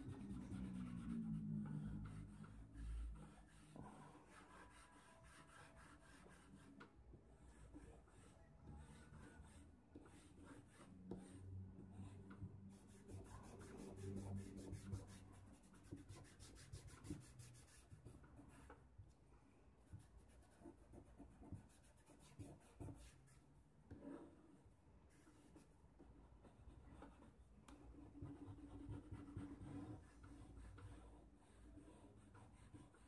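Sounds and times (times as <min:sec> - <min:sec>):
charcoal scratching on paper: 0:00.0 - 0:18.8, 0:20.0 - 0:25.8, 0:26.4 - 0:33.0.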